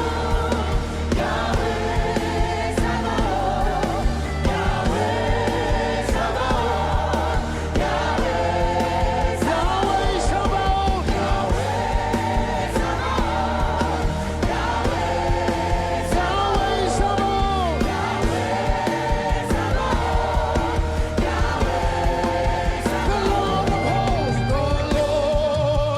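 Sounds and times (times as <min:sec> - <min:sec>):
band with bass and drums: 0:00.0 - 0:25.9
choir and crowd singing: 0:00.0 - 0:25.9.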